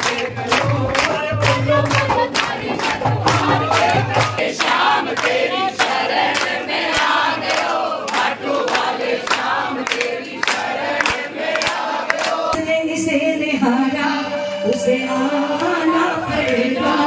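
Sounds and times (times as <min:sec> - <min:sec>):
group singing devotional song: 0:00.0 - 0:17.0.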